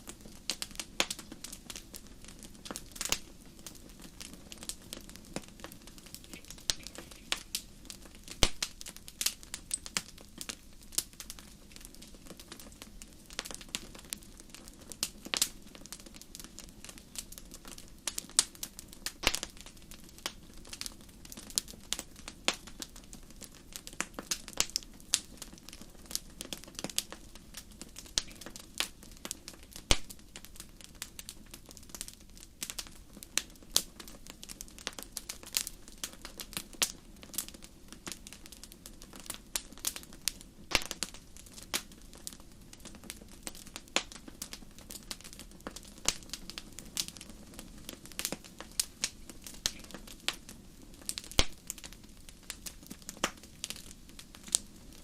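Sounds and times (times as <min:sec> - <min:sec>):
low hiss of burning: 0:00.0 - 0:55.0
wood fire crackling and popping: 0:00.0 - 0:55.0.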